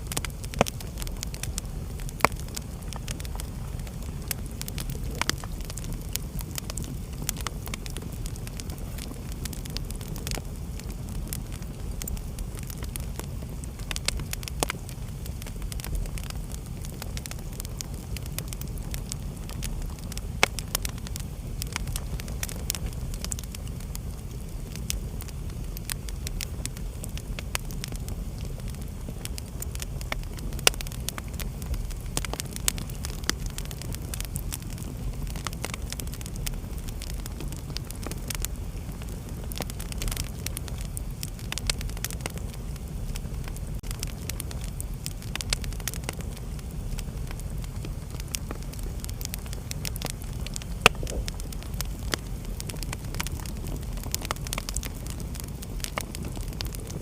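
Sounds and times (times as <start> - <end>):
burning logs crackling and popping: 0.0 - 57.0
fire rumbling: 0.0 - 57.0.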